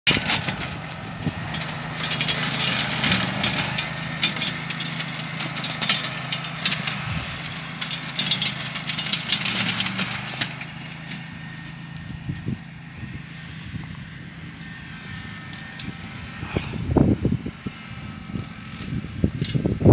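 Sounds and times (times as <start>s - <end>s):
brush cutter engine running: 0.0s - 19.9s.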